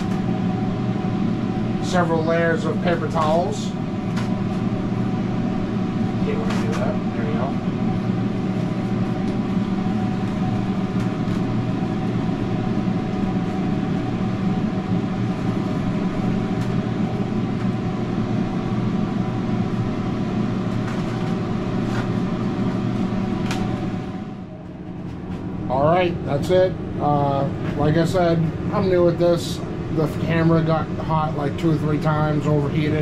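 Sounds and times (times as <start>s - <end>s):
kitchen equipment humming: 0.0s - 33.0s.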